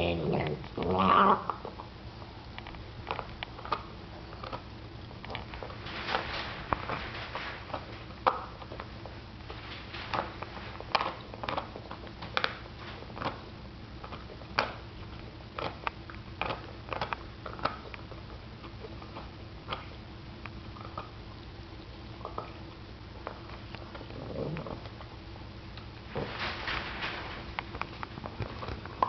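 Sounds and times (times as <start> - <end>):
dog gnawing a bone: 0.0 - 26.4, 27.4 - 29.0.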